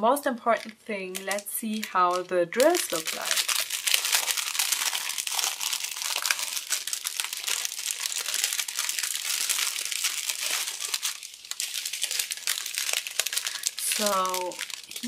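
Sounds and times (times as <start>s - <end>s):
plastic packaging crinkling: 0.4s - 15.0s.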